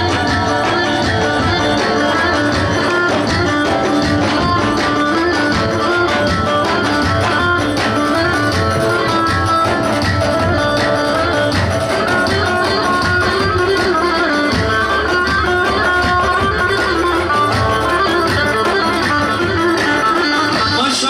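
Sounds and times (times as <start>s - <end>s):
drums beating steady rhythm: 0.0s - 21.0s
plucked string melody: 0.0s - 21.0s.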